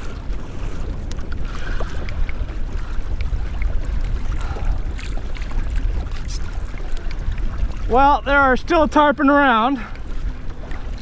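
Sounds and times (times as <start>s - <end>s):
water lapping against kayak hull: 0.0s - 11.0s
wind buffeting microphone: 0.0s - 11.0s.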